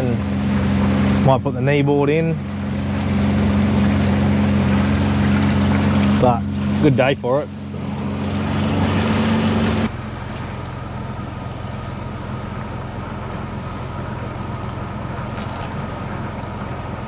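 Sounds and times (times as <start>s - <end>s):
boat engine running: 0.0s - 17.0s
truck engine idling: 0.0s - 17.0s
wind and water noise: 0.0s - 17.0s.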